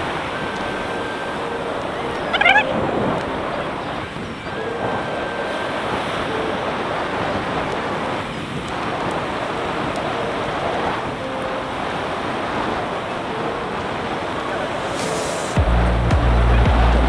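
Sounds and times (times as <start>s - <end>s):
sea surf washing on shore: 0.0s - 17.0s
wind on microphone: 0.0s - 17.0s.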